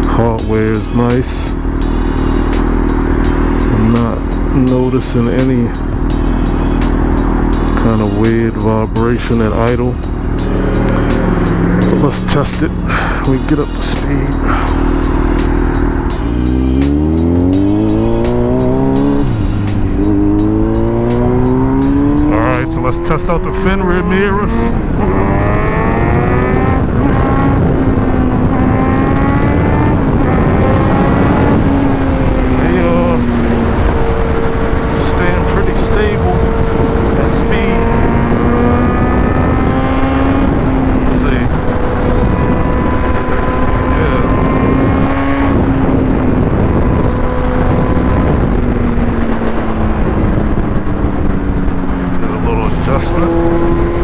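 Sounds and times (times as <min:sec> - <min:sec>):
heavy wind rush: 0:00.0 - 0:54.0
motorcycle engine accelerating: 0:00.0 - 0:54.0.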